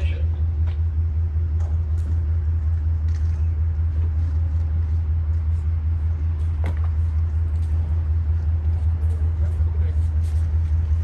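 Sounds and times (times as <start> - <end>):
idling train drone: 0.0 - 11.0.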